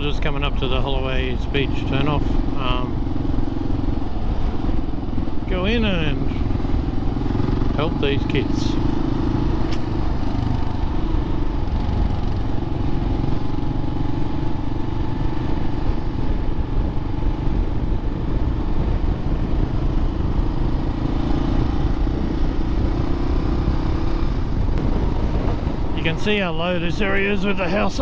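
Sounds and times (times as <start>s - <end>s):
motorcycle engine running: 0.0s - 28.0s
road noise: 0.0s - 28.0s
wind noise: 0.0s - 28.0s.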